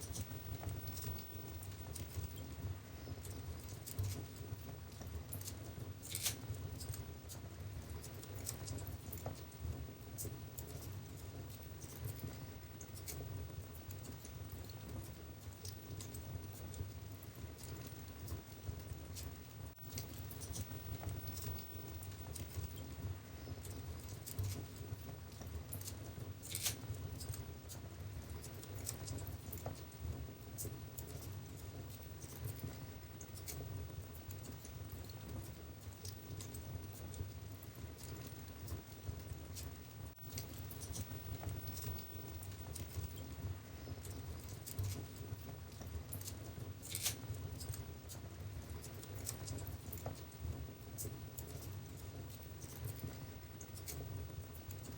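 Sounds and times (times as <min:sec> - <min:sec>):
fire crackling and popping: 0:00.0 - 0:54.9
fire rumbling in fireplace: 0:00.0 - 0:54.9.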